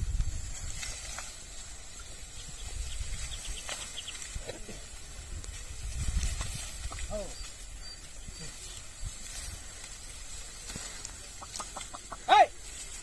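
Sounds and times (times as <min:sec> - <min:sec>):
wind rumbling on microphone: 0:00.0 - 0:11.4.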